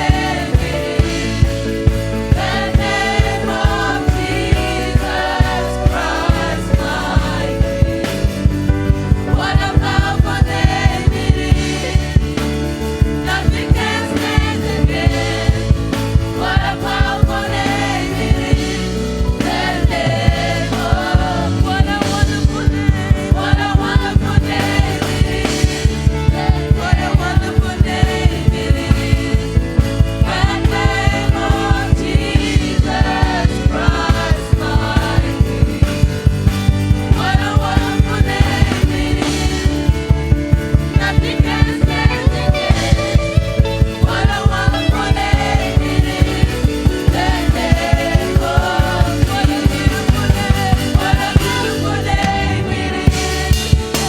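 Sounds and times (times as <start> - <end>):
people singing gospel song: 0.0 - 54.0
steady drum beat: 0.0 - 54.0.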